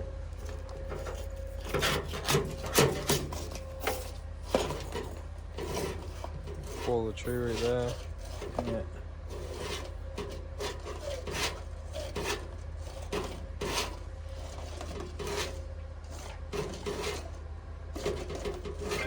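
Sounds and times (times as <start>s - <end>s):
steady low hum: 0.0s - 19.0s
scraping and rubbing strokes: 0.4s - 17.4s, 18.0s - 19.0s.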